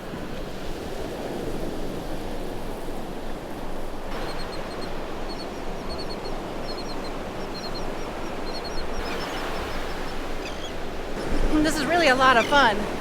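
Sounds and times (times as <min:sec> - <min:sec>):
surf: 0:00.0 - 0:13.0
wind: 0:00.0 - 0:13.0.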